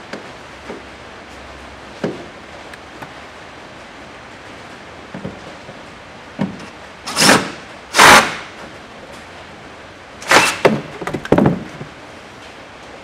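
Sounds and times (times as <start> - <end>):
rain on a metal roof: 0.0 - 13.0.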